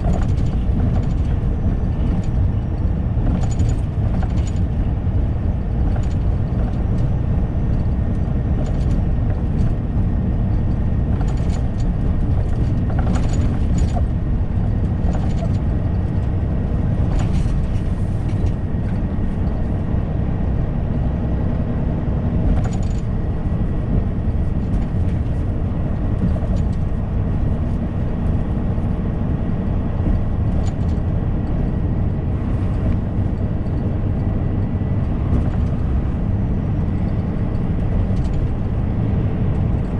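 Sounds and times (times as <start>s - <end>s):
lorry engine and road rumble: 0.0s - 39.9s.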